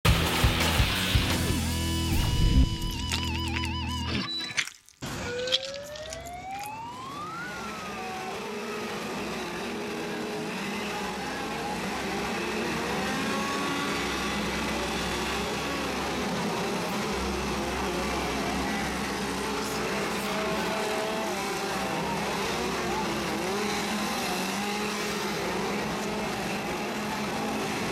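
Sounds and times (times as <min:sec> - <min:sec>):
chainsaws running and revving: 0:00.1 - 0:04.1, 0:05.1 - 0:27.9
siren-like wail: 0:02.1 - 0:27.9.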